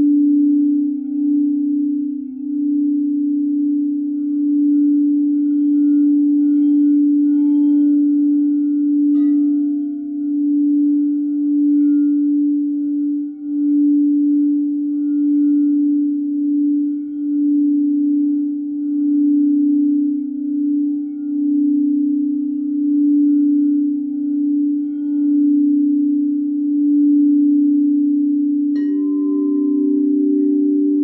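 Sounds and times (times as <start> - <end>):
higher singing bowl ringing: 0.0 - 31.0
low singing bowl humming: 0.0 - 31.0.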